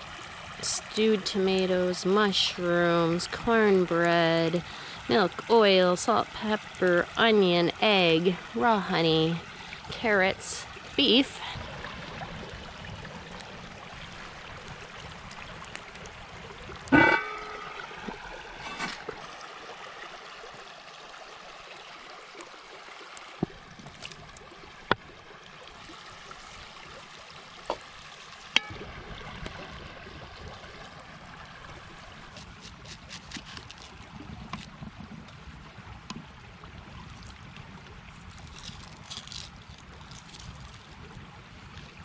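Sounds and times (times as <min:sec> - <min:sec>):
creek water running: 0:00.0 - 0:42.0.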